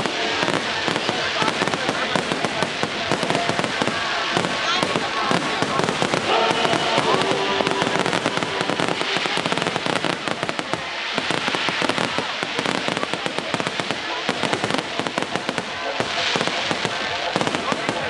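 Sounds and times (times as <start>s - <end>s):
fireworks bursting with bangs and pops: 0.0s - 18.0s.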